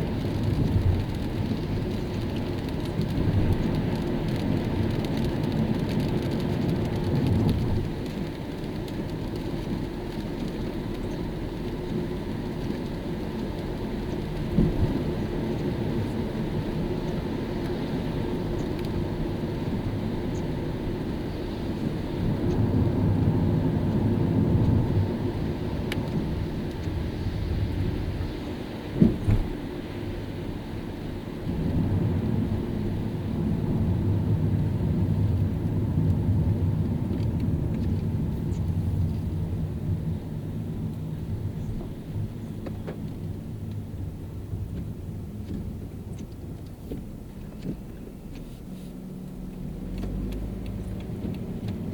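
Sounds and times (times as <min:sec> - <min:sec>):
car engine rumble: 0:00.0 - 0:51.9
tyres on wet road: 0:00.0 - 0:51.9.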